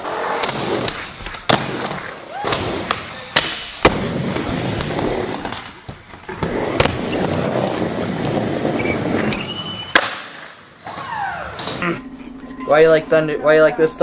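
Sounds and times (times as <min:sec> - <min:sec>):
skateboard wheels rolling: 0:00.0 - 0:11.8.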